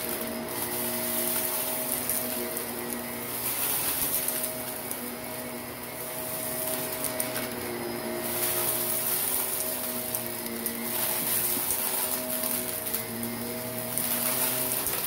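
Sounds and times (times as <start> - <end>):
grit crackling in vacuum: 0.0 - 15.0
vacuum cleaner running: 0.0 - 15.0.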